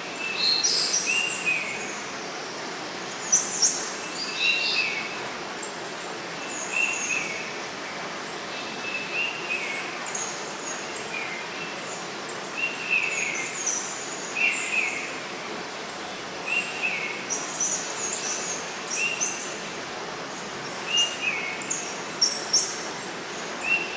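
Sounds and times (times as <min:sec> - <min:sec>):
rushing water: 0:00.0 - 0:23.9.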